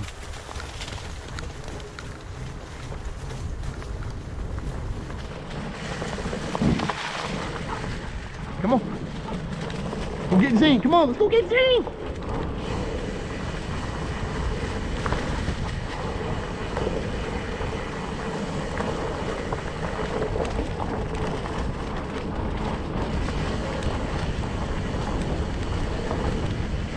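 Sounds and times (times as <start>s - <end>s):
bike rattling: 0.0s - 26.9s
knobby tyres rolling on dirt: 0.0s - 26.9s.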